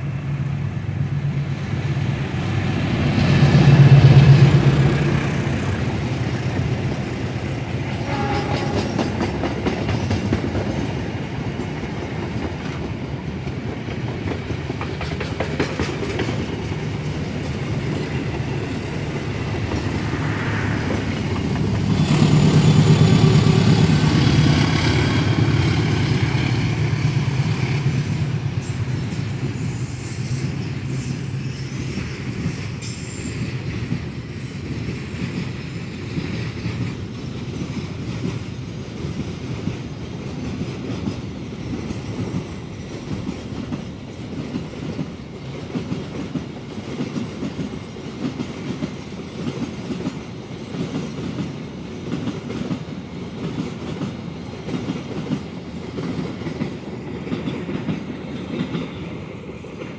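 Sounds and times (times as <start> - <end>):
train wheels clattering on rails: 2.4 - 59.9.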